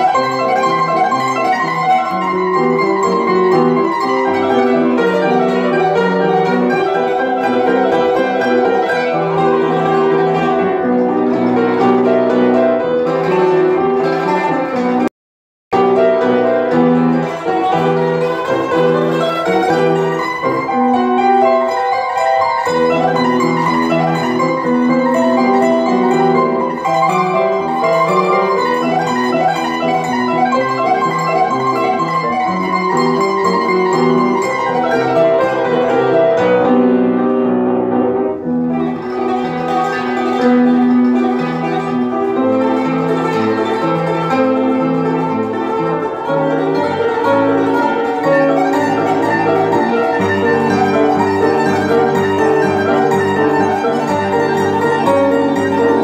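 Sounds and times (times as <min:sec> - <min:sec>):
plucked zither notes: 0:00.0 - 0:15.1, 0:15.8 - 0:56.0
upright piano: 0:00.0 - 0:15.1, 0:15.7 - 0:56.0.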